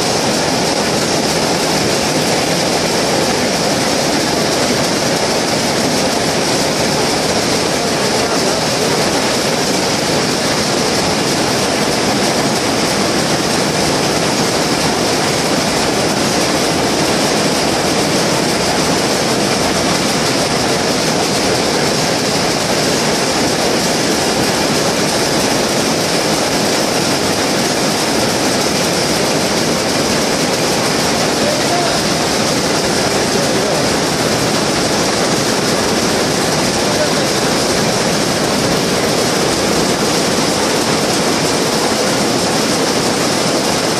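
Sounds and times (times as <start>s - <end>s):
weaving loom clattering: 0.0s - 43.9s.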